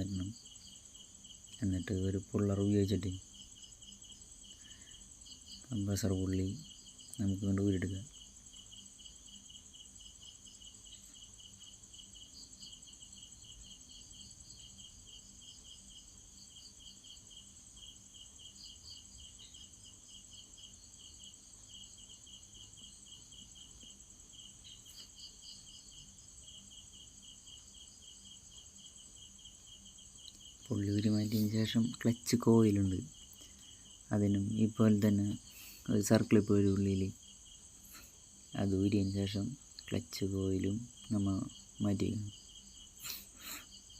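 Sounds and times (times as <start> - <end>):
crickets chirping: 0.0 - 43.9
high insect drone: 0.0 - 43.9.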